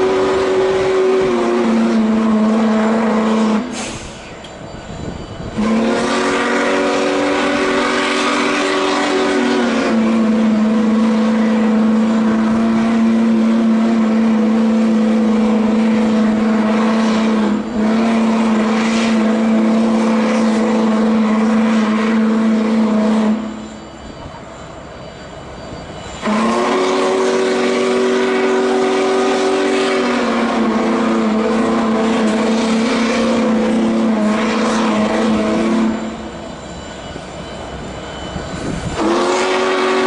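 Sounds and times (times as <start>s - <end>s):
steam whistle blasts: 0.0s - 4.4s, 5.4s - 25.2s, 25.8s - 40.0s.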